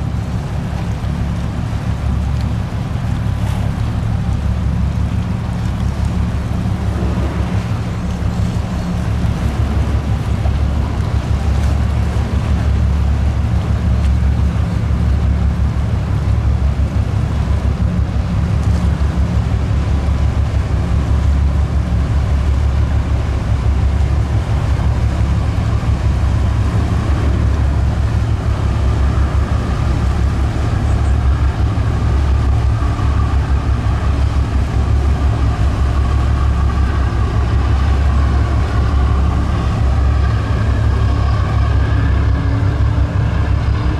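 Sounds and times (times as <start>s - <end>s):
boat diesel engines rumbling: 0.0s - 43.9s
bow wave rushing: 0.0s - 43.9s.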